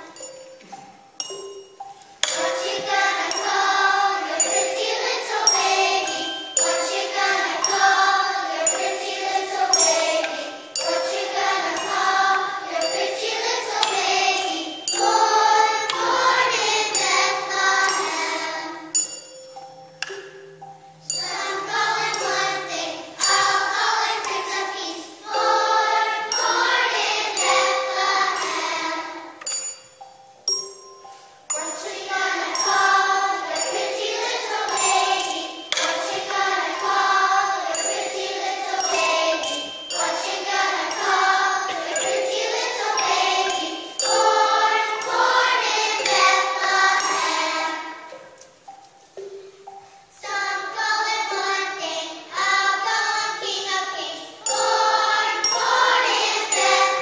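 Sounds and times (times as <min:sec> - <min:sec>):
held ringing tone: 0:00.0 - 0:24.7, 0:25.3 - 0:49.8
children's choir singing: 0:00.0 - 0:57.0.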